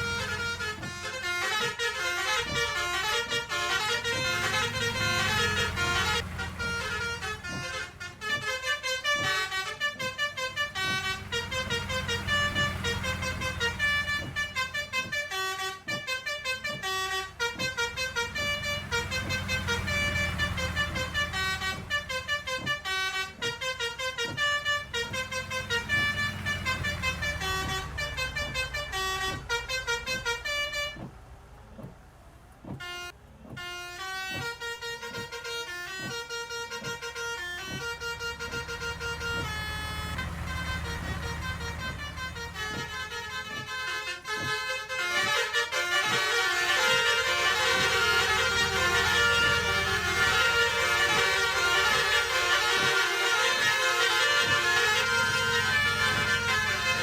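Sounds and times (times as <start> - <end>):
bus engine rumble: 0.0 - 57.0
bus horn playing melody: 0.0 - 57.0.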